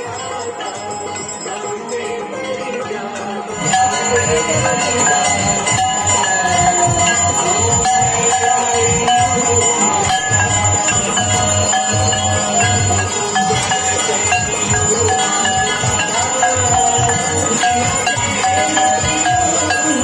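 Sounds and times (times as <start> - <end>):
bells ringing: 0.0 - 20.0
people singing a hymn: 0.0 - 20.0.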